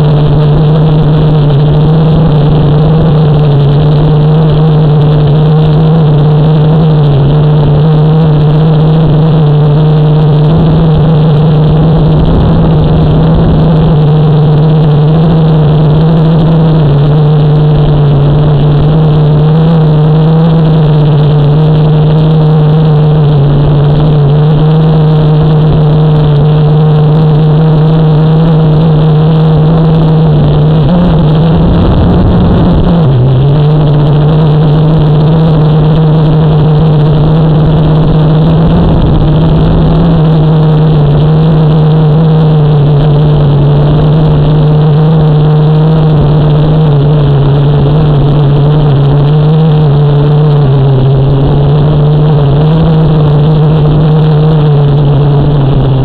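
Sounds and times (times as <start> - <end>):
drone propellers buzzing: 0.0 - 56.0
wind rumble: 0.0 - 56.0.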